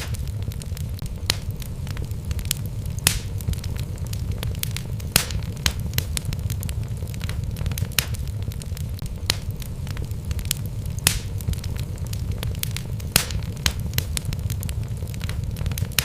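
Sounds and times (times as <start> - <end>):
logs crackling and popping: 0.0 - 16.0
low rumble of flame: 0.0 - 16.0.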